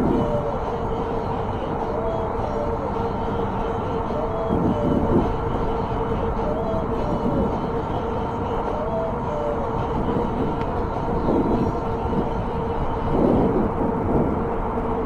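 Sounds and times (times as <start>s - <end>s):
electric hub motor whine: 0.0s - 15.0s
road traffic: 0.0s - 15.0s
wind on microphone: 0.0s - 15.0s.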